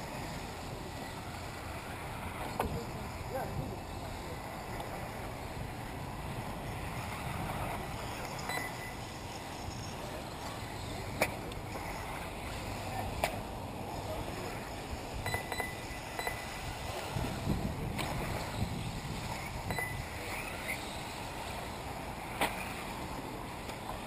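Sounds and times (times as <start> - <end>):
wind rumbling on microphone: 0.0 - 23.6
distant rc buggies racing: 0.0 - 24.0
high motor whine: 0.0 - 24.0.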